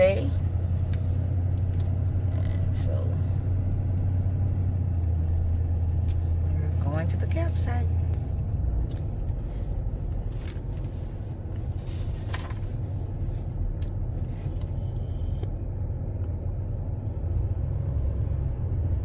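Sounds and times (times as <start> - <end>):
vehicle rumble from inside cabin: 0.0 - 19.0.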